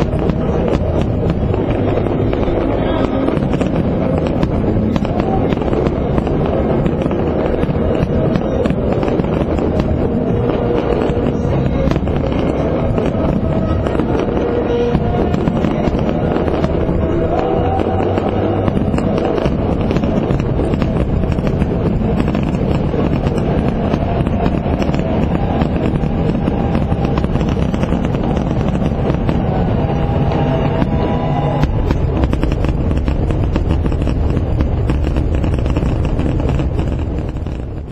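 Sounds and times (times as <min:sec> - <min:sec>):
fireworks bursting and crackling: 0:00.0 - 0:37.9.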